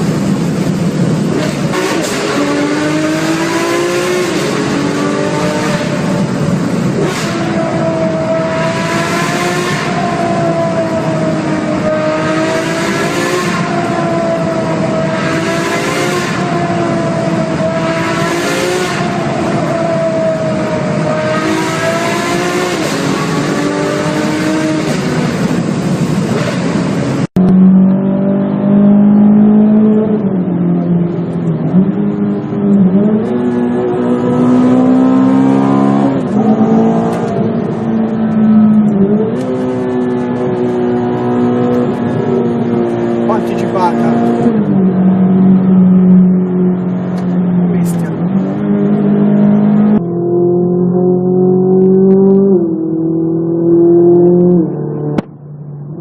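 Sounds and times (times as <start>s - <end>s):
deeper engine revving: 0.0s - 56.0s
sports car engine revving: 0.0s - 56.0s.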